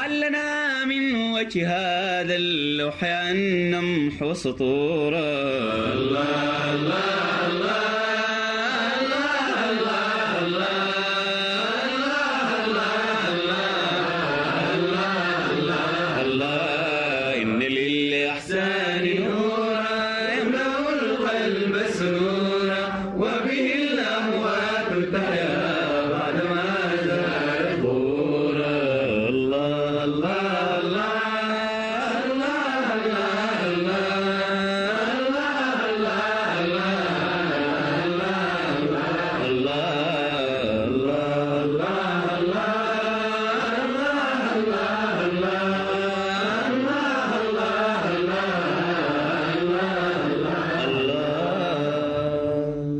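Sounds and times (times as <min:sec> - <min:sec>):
wordless devotional chanting: 0:00.0 - 0:52.9.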